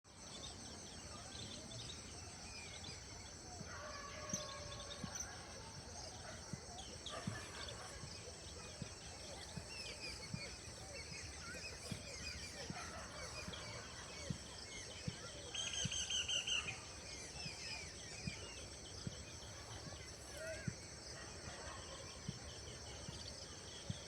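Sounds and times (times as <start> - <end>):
small birds chirping: 4.3 - 24.0.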